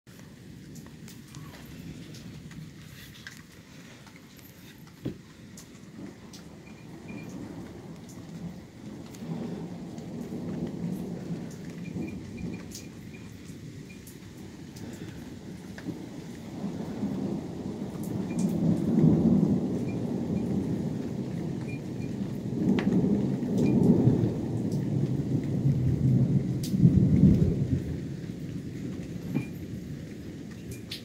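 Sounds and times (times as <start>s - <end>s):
rolling thunder: 0.3s - 31.0s.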